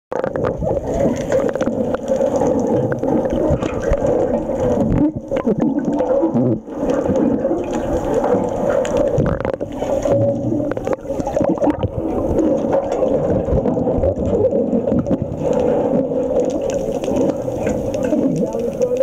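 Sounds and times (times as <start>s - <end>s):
muffled churning water: 0.1s - 19.0s
scattered crackles: 0.1s - 19.0s
underwater bubbles: 0.1s - 19.0s.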